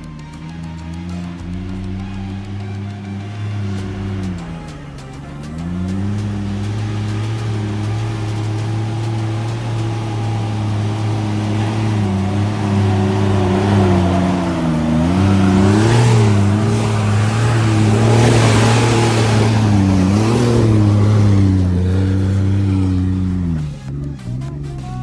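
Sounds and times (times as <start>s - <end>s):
vehicle engine revving under load: 0.0s - 25.0s.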